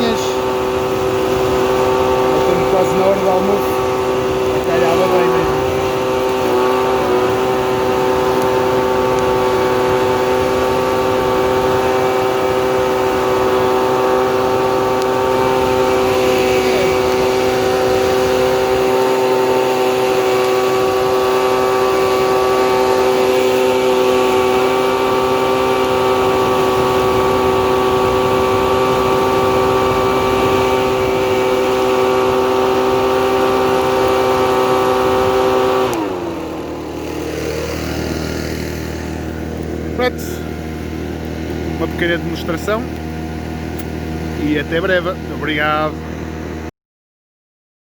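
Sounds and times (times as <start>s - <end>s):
leaf blower running: 0.0s - 46.7s.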